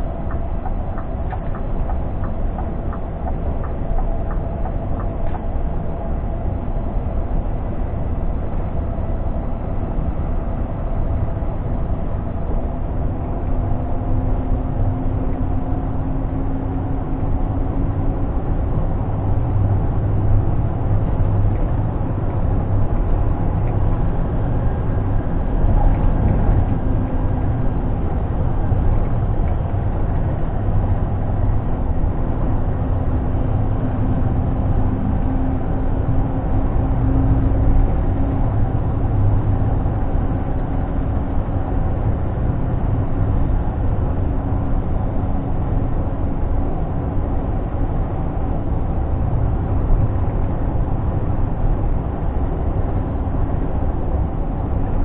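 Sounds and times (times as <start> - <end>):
road noise: 0.0 - 55.0
truck diesel engine drone: 0.0 - 55.0.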